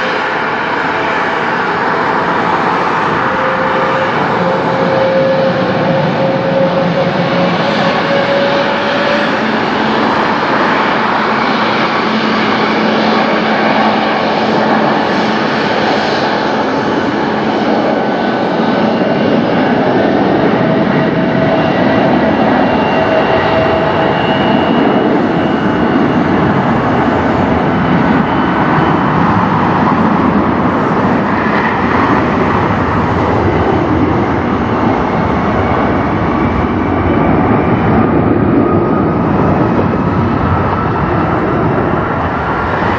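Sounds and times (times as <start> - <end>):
high jet engine whines: 0.0 - 42.9
jet engines roaring: 0.0 - 42.9.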